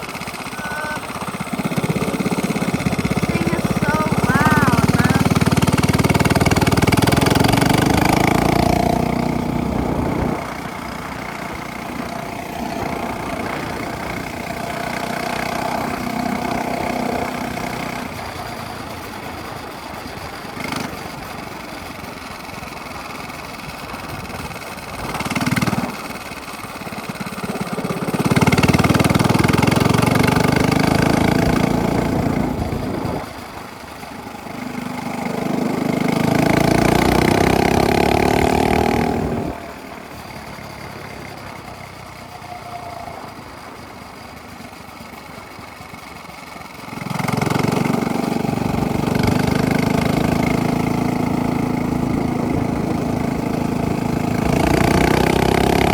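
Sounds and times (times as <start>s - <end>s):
small engine with loud exhaust: 0.0s - 55.9s.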